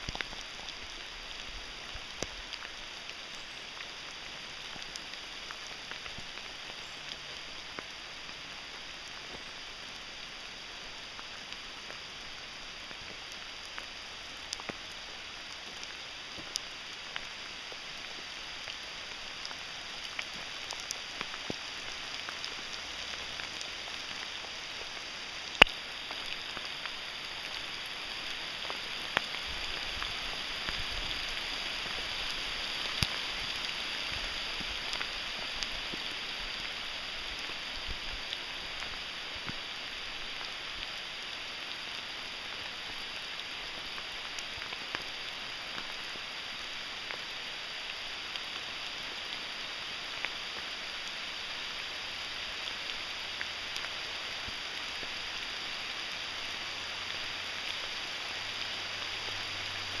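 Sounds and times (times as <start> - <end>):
rain falling on foliage: 0.0 - 60.0
sharp ticks of raindrops: 0.0 - 60.0.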